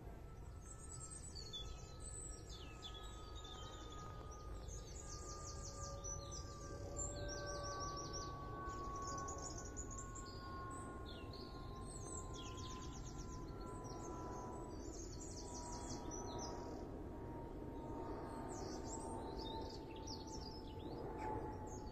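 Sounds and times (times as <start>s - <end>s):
faint hum: 0.0s - 21.9s
songbirds chirping and trilling: 0.3s - 17.0s, 17.6s - 21.9s.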